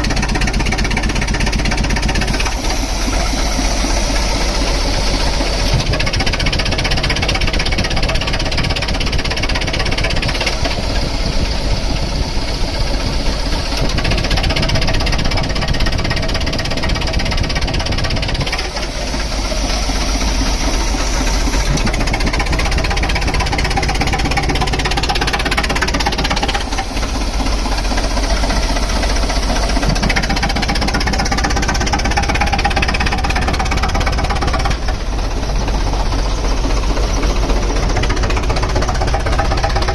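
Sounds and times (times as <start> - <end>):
compressor engine running: 0.0 - 39.9.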